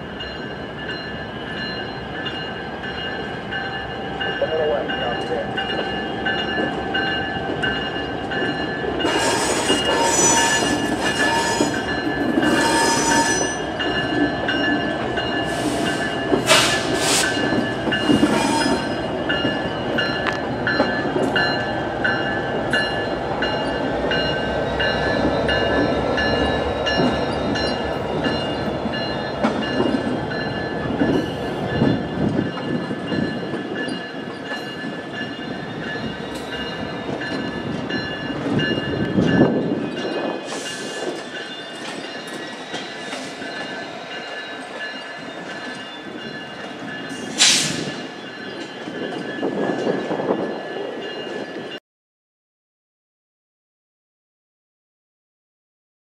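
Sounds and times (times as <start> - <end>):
freight train rumbling past: 0.0 - 51.8
train wheels squealing: 0.0 - 51.8.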